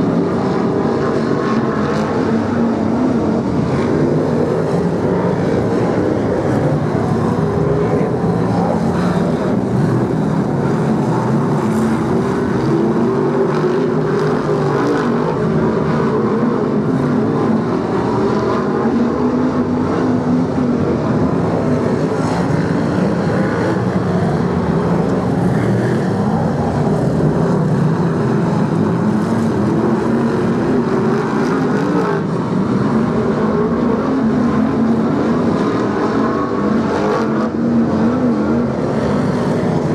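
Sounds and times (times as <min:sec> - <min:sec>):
stock car engines racing: 0:00.0 - 0:39.9.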